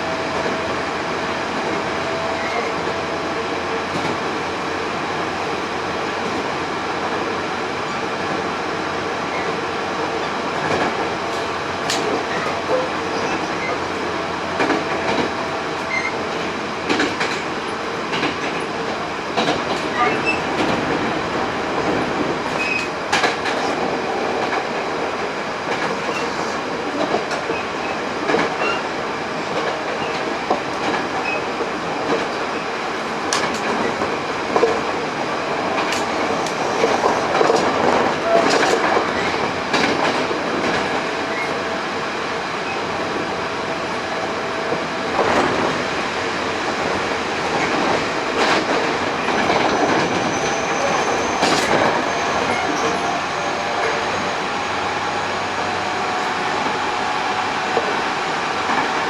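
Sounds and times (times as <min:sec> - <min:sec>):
train rolling noise: 0:00.0 - 0:59.0.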